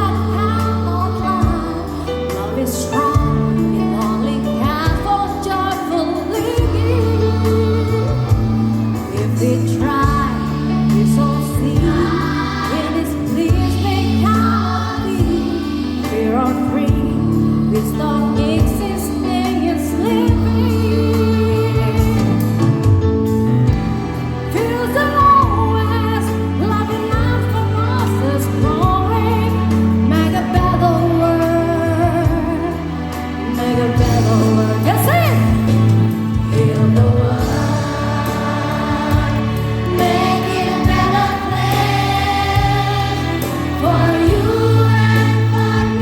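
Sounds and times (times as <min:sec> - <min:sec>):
children's choir singing: 0:00.0 - 0:22.9, 0:23.6 - 0:46.0
sustained bass and chord accompaniment: 0:00.0 - 0:46.0.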